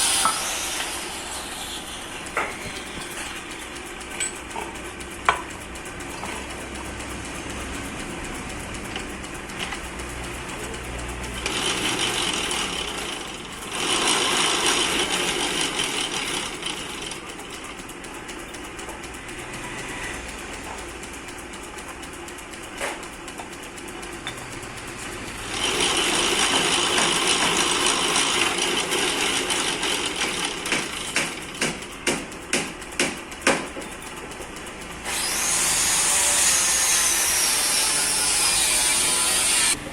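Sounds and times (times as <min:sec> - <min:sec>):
metal lathe humming: 0:00.0 - 0:39.9
tool hissing on metal: 0:00.0 - 0:39.9
sharp clicks: 0:01.8 - 0:37.9.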